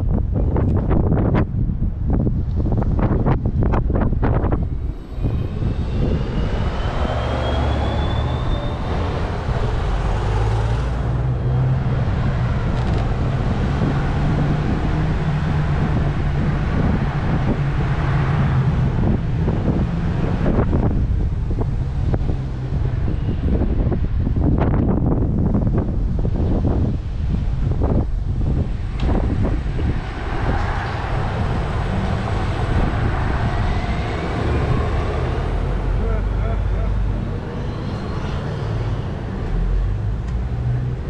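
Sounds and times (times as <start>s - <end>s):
tyre and road noise: 0.0s - 41.0s
wind buffeting microphone: 0.0s - 41.0s
car engine humming: 2.1s - 41.0s
thin rising whine: 2.8s - 23.8s, 25.7s - 41.0s.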